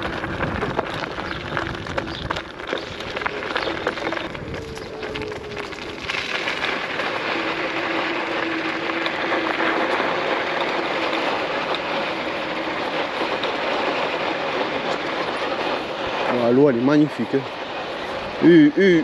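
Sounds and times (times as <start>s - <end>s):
rushing wind and road noise: 0.0s - 19.0s.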